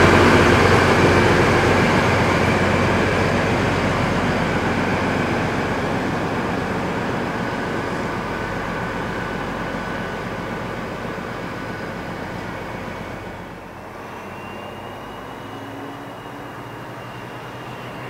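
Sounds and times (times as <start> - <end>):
diesel locomotive engine: 0.0 - 18.0
train wheels on rails: 0.0 - 18.0.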